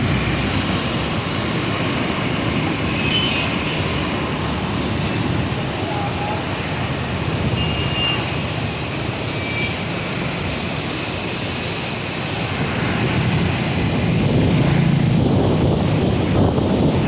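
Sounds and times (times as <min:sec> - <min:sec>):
river water rushing roar: 0:00.0 - 0:17.0.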